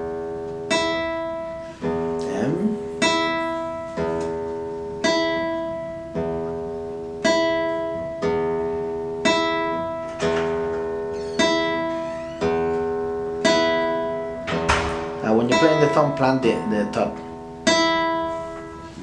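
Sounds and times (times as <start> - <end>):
classical guitar played slowly: 0.0 - 19.0.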